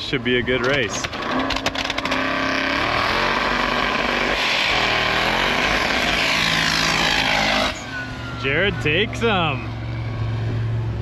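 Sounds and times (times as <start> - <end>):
racing engines at full throttle: 0.0 - 11.0.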